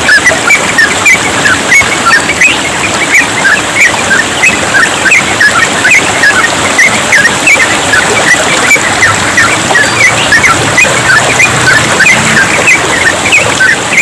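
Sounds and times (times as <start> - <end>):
birds chirping: 0.0 - 14.0
trickling water: 0.0 - 14.0.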